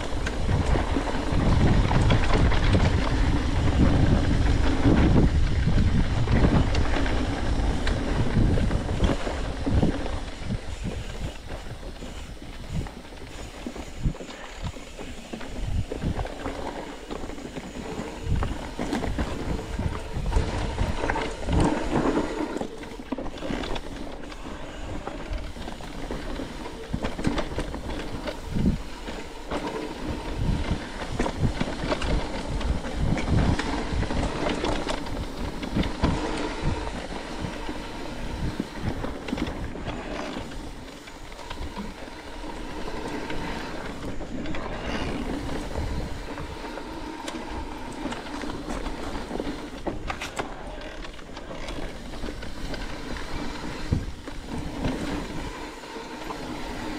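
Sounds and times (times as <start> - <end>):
bike tyres rattling on gravel: 0.0 - 56.9.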